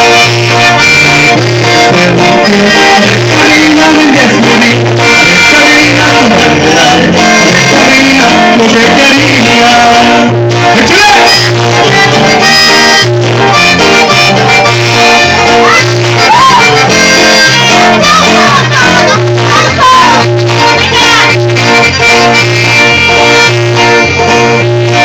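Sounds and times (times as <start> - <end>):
accordion melody: 0.0 - 25.0
electric bass line: 0.0 - 25.0
electric guitar: 0.0 - 25.0.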